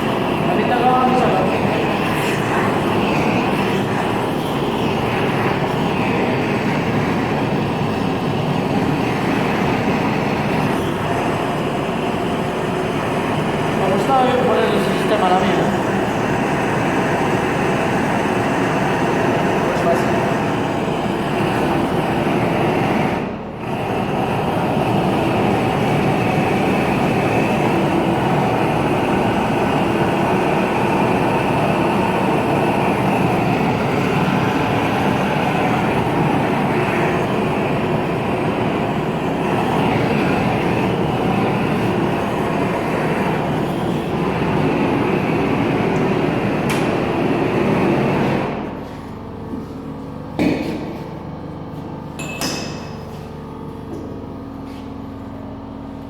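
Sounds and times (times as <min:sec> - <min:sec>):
loud workshop equipment noise: 0:00.0 - 0:56.0
low machine hum: 0:00.0 - 0:56.0.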